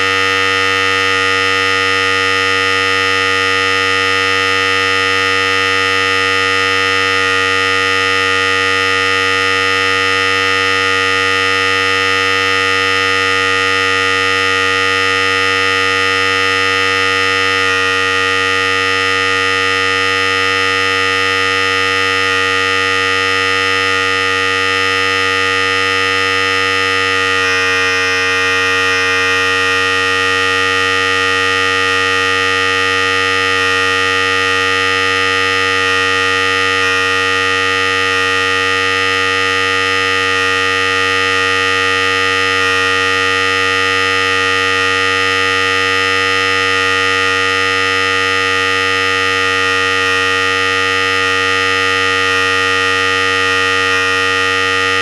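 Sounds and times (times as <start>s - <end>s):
electric hair clippers buzzing: 0.0s - 5.9s, 12.1s - 47.5s, 48.3s - 55.0s.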